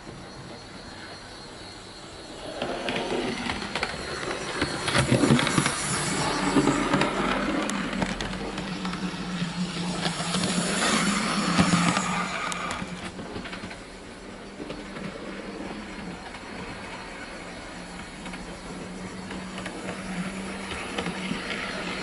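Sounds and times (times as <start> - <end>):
model train motor hum: 2.3 - 22.0
wheels clicking over rail joints: 2.3 - 22.0.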